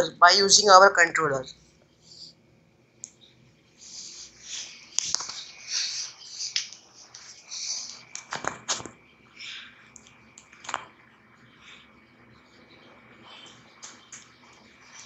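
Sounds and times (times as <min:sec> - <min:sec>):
faint high-pitched whine: 0:00.0 - 0:15.0.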